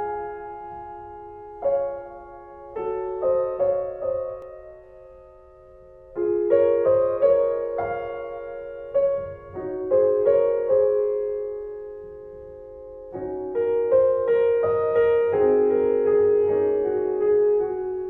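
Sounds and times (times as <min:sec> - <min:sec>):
slow piano playing: 0:00.0 - 0:18.0.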